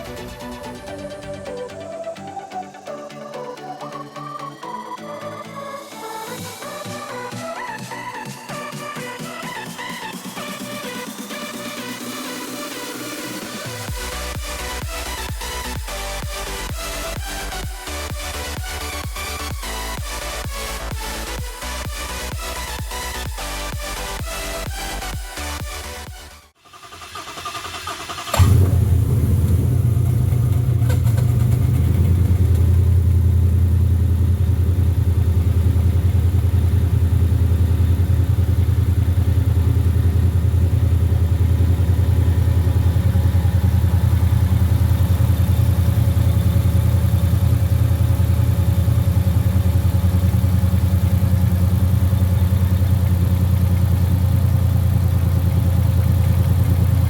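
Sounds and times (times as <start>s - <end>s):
car engine starting and idling: 0.0s - 57.0s.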